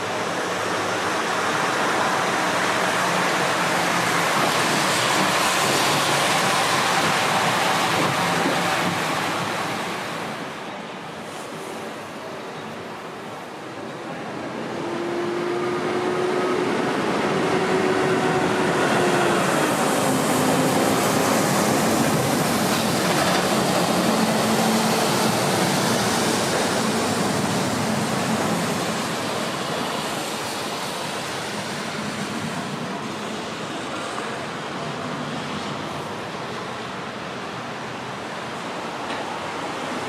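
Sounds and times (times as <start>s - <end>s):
jet airliner engine roar: 0.0s - 40.0s.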